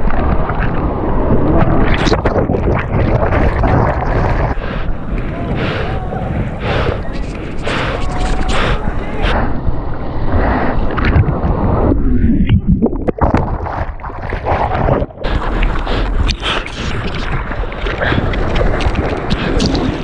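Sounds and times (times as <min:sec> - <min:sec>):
wave breaking and churning water: 0:00.0 - 0:20.0
wind buffeting microphone: 0:00.0 - 0:20.0.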